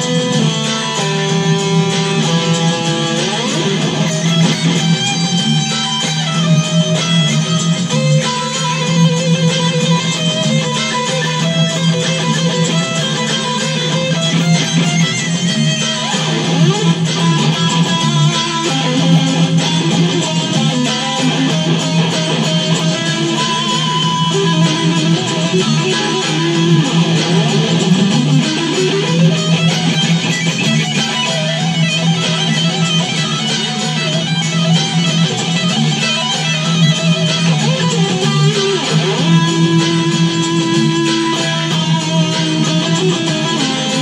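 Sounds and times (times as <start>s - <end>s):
electric guitar solo: 0.0s - 44.0s
metal backing track: 0.0s - 44.0s.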